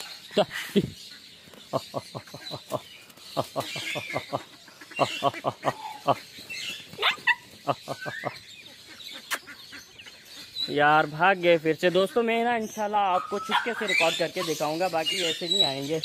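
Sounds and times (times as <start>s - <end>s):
higher bird chirps: 0.0s - 16.0s
poultry short low calls: 0.0s - 16.0s.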